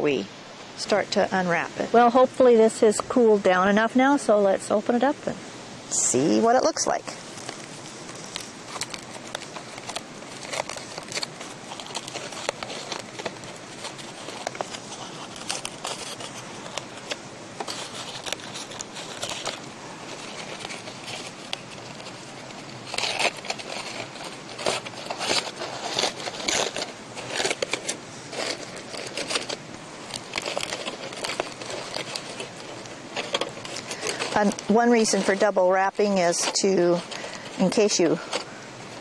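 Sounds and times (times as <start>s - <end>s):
aluminium foil crinkling: 5.9s - 39.0s.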